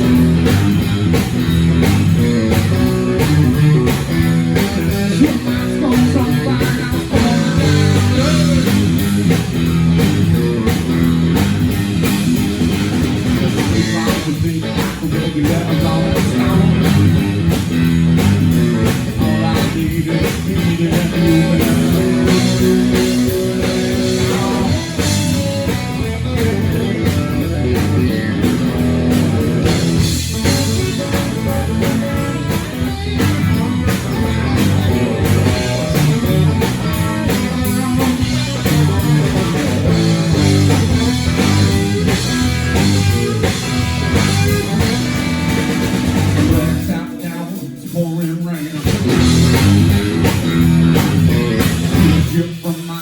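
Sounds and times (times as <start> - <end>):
blues-rock band playing: 0.0 - 53.0
drum kit: 0.0 - 53.0
electric guitar: 0.0 - 53.0.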